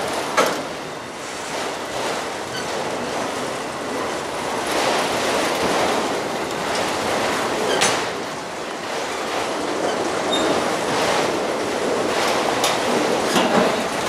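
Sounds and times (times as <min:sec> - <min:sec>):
freight train wheels rushing on track: 0:00.0 - 0:14.0.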